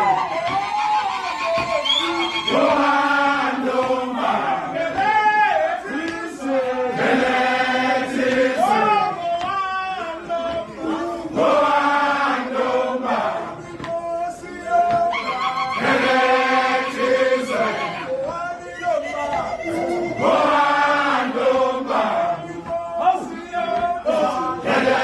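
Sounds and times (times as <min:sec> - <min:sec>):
men chanting in unison: 0:01.6 - 0:25.0.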